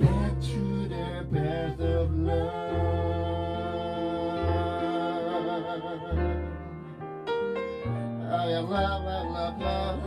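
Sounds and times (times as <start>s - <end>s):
low bass notes: 0.0s - 10.0s.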